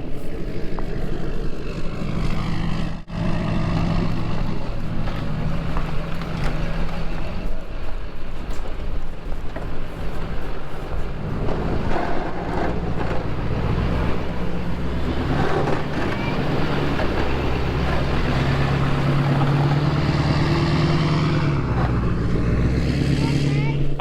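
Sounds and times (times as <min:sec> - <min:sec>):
snow plow engine running: 0:00.0 - 0:24.0.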